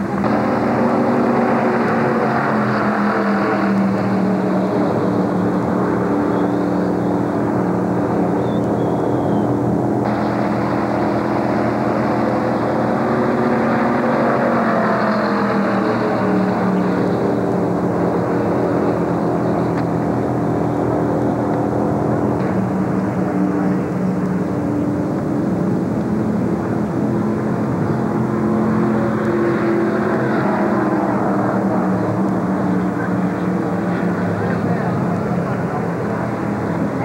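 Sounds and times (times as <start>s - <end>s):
race car engines droning: 0.0s - 37.0s.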